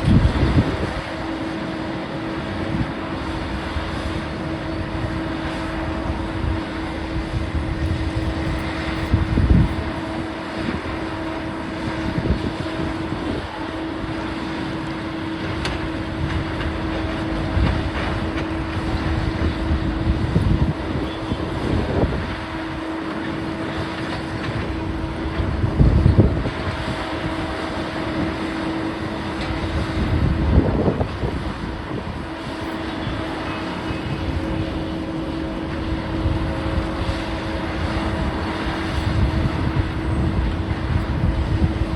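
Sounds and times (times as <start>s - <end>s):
demolition machinery engine rumbling: 0.0s - 41.9s.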